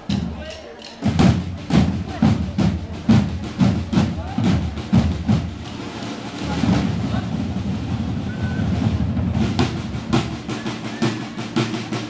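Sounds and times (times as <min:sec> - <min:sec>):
drum stroke: 0:00.0 - 0:12.0
drumming: 0:00.0 - 0:12.0
murmur of outdoor crowd: 0:00.0 - 0:12.0.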